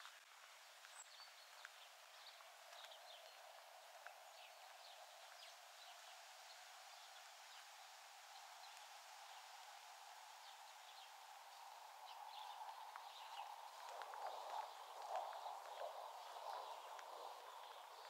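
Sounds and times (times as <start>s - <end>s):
steady outdoor hiss: 0.0s - 18.0s
small birds chirping: 0.2s - 18.0s.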